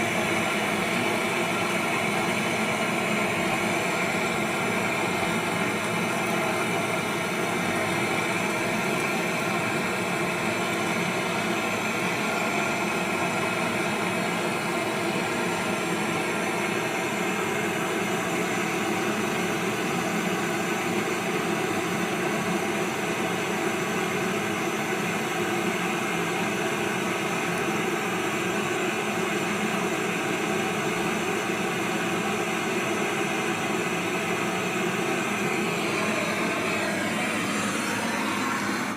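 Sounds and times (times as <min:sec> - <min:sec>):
machine hum with hiss: 0:00.0 - 0:38.9.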